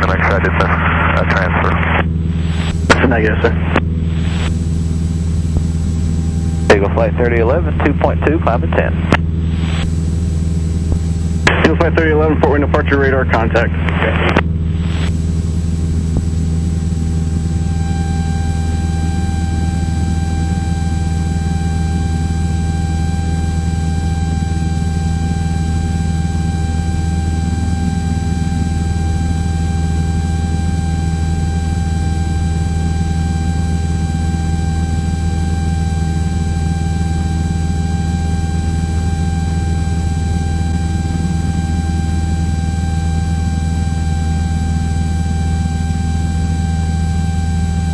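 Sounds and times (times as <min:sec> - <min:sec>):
high-pitched whine: 0:00.0 - 0:47.9
light aircraft engine drone: 0:00.0 - 0:47.9.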